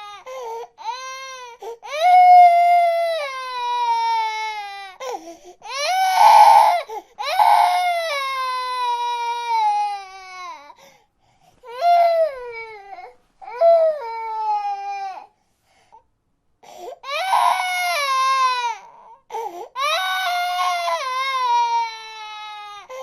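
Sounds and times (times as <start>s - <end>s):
baby crying: 0.0s - 10.8s, 11.6s - 15.3s, 16.9s - 23.0s.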